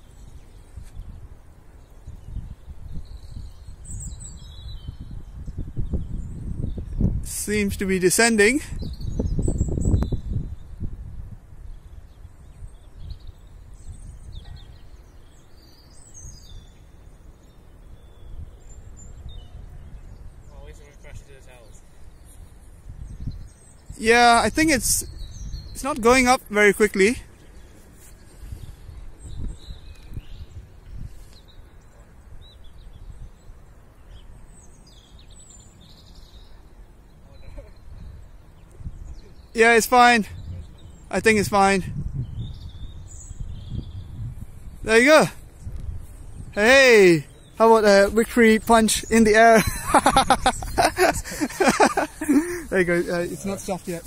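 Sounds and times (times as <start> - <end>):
wind buffeting microphone: 0.0 - 36.7, 37.3 - 39.6, 40.2 - 54.0
small birds chirping faintly: 0.0 - 54.0.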